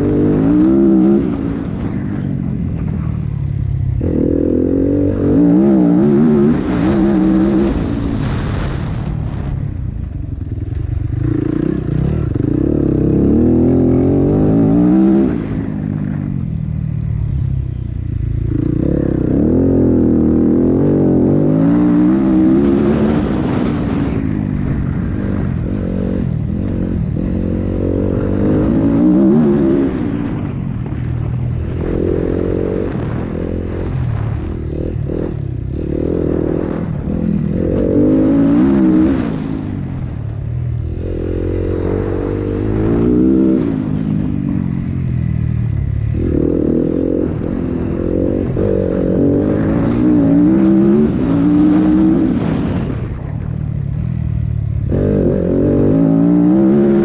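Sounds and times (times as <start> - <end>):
dirt bike engine revving: 0.0 - 8.3, 10.4 - 54.0, 54.7 - 57.0.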